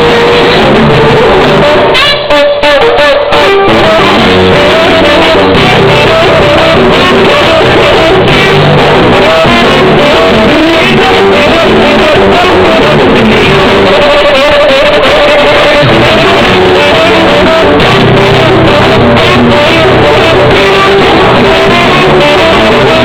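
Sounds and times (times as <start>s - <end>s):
loud live band music: 0.0s - 23.0s
person singing: 0.0s - 23.0s.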